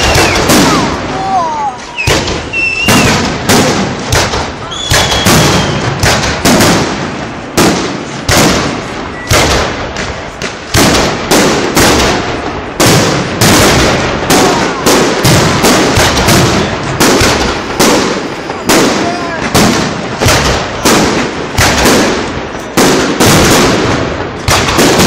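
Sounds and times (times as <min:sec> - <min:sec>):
fireworks bursting with loud bangs: 0:00.0 - 0:25.0.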